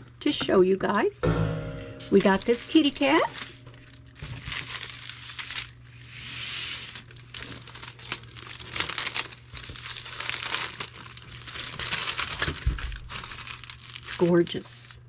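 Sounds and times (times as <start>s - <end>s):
plastic packaging crinkling: 2.1s - 14.9s.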